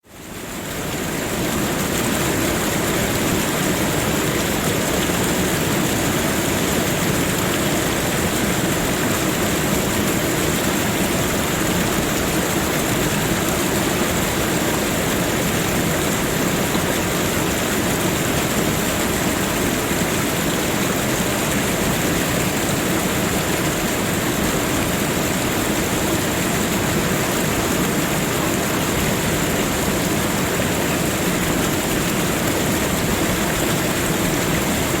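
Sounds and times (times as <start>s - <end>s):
rushing water: 0.0s - 35.0s.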